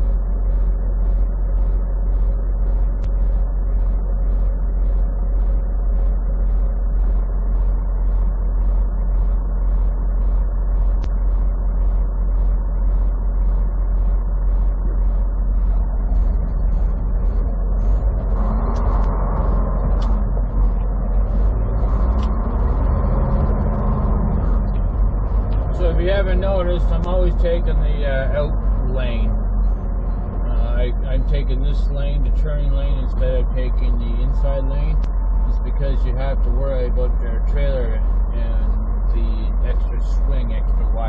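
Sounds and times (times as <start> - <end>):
light regular ticking: 0.0 - 41.0
road noise: 0.0 - 41.0
truck engine rumbling: 0.0 - 41.0.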